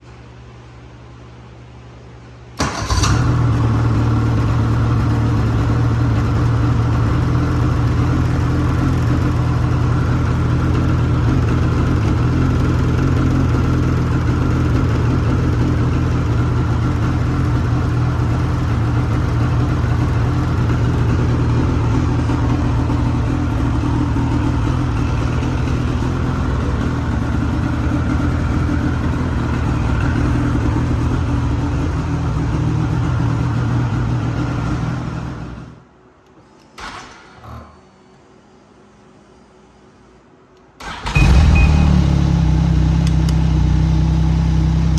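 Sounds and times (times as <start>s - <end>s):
snowmobile engine idling: 2.6s - 35.7s, 41.2s - 44.9s.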